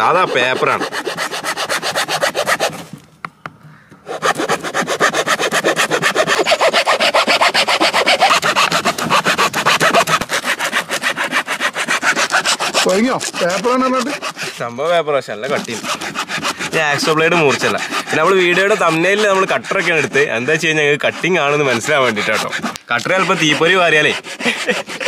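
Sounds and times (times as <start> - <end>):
saw sawing through thick paper: 0.0 - 3.0, 4.0 - 25.0.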